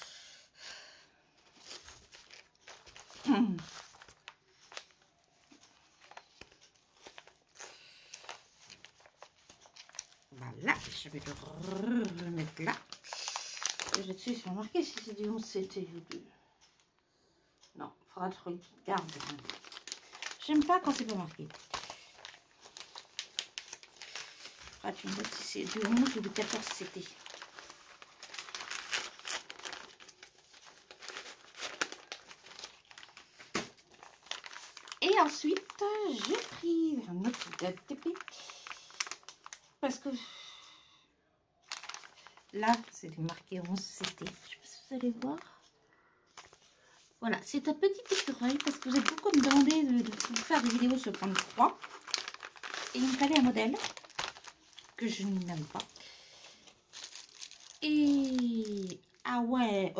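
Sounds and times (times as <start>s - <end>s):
plastic packaging crinkling: 1.3s - 16.2s, 18.8s - 40.1s, 41.6s - 45.7s, 46.3s - 59.9s.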